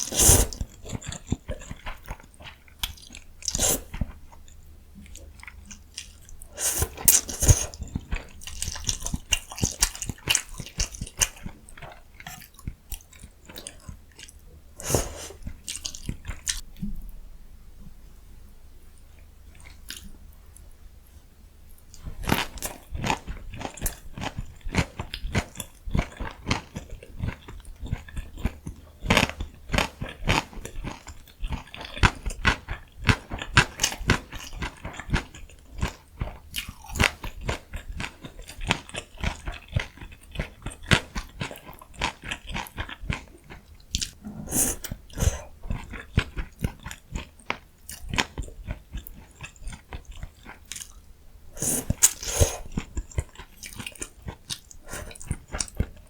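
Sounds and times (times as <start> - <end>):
person chewing crunchy food: 0.0 - 16.6, 19.5 - 20.2, 22.0 - 56.0.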